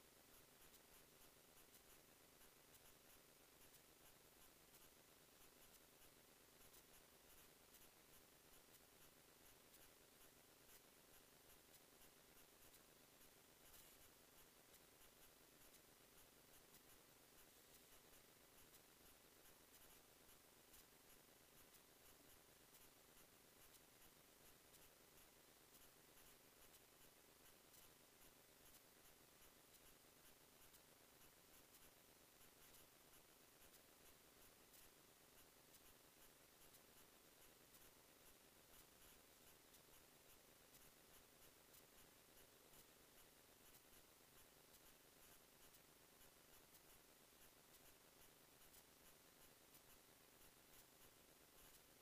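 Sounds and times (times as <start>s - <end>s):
faint steady hiss: 0.0s - 52.0s
faint ticks: 0.0s - 52.0s.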